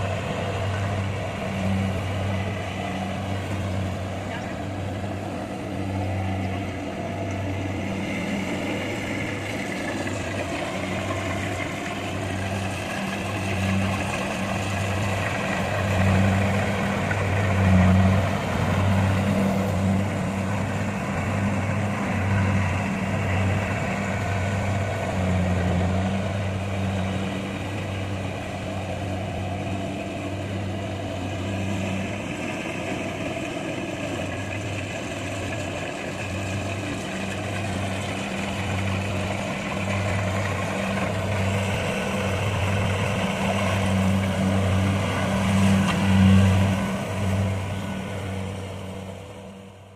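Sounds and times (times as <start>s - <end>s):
diesel engine hum: 0.0s - 49.9s
mechanical rush of harvester: 0.0s - 49.9s.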